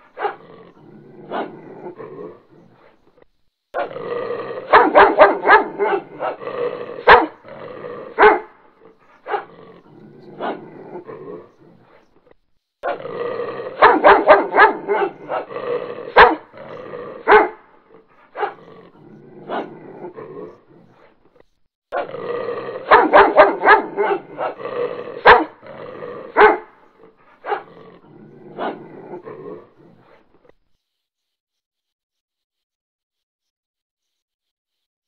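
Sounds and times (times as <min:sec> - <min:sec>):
dog growling and barking: 0:00.0 - 0:30.6.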